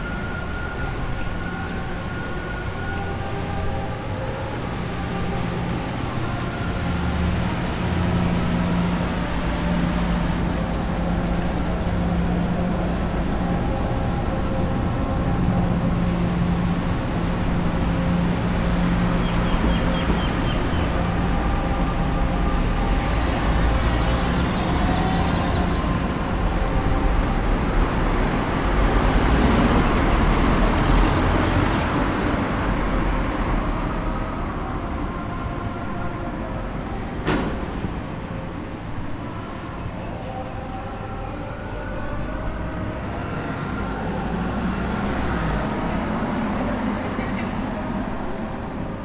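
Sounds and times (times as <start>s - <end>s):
road traffic passing: 0.0s - 49.0s.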